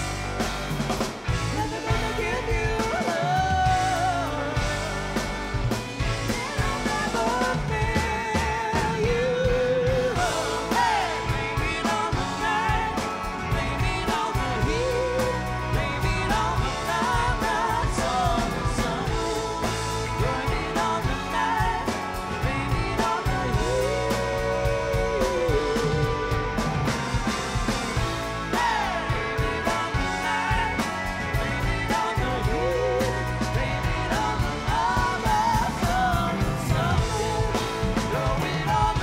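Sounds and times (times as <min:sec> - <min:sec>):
live rock band playing: 0:00.0 - 0:39.0
person singing: 0:01.4 - 0:05.4, 0:06.2 - 0:26.9, 0:28.0 - 0:39.0.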